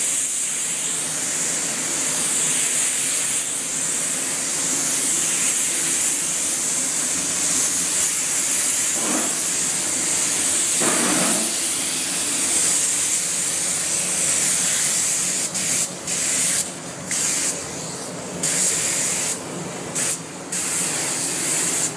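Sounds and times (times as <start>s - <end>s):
paint spray gun hissing: 0.0s - 21.9s.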